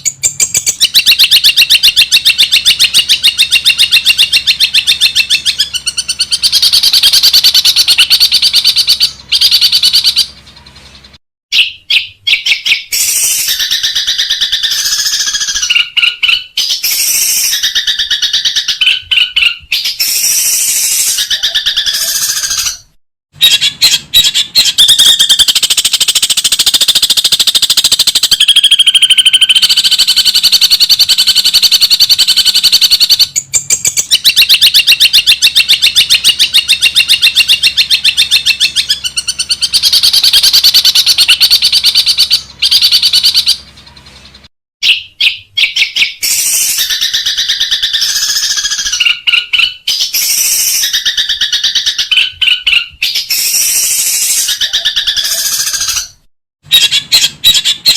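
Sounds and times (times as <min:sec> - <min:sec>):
bird chattering rattle: 0:00.0 - 0:11.2, 0:12.3 - 0:57.9.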